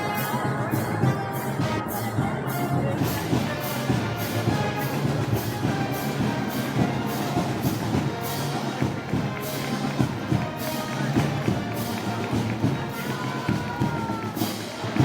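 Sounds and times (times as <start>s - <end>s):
brass band march: 0.0s - 15.0s.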